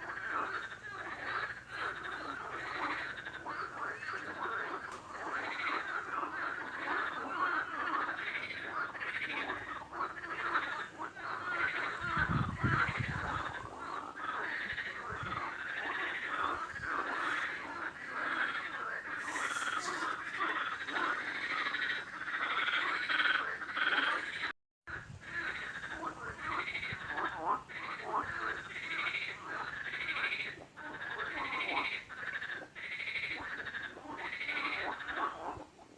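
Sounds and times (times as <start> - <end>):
chorus of frogs calling: 0.0 - 35.9.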